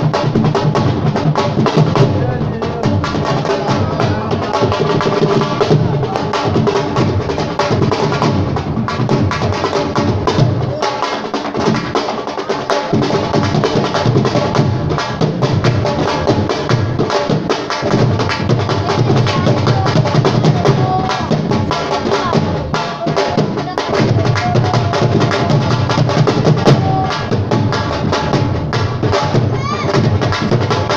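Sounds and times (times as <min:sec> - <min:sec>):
fast live drumming: 0:00.0 - 0:30.9.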